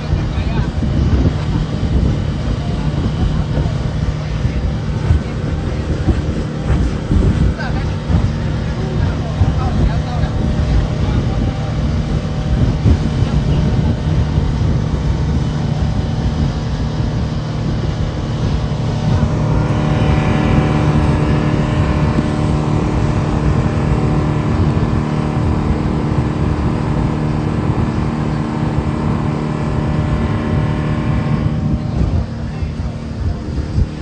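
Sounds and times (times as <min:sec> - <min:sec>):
outboard motor running: 0:00.0 - 0:34.0
water spray and churning wake: 0:00.0 - 0:34.0.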